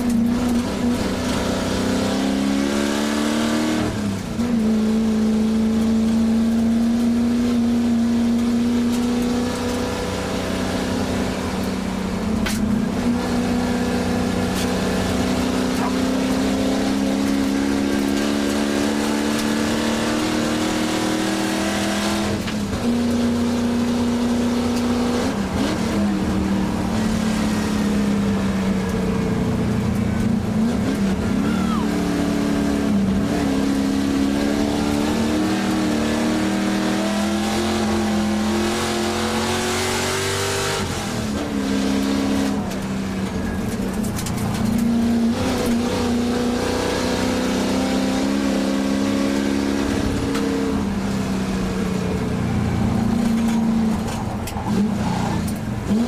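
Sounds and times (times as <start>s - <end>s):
engine under racing load: 0.0s - 56.0s.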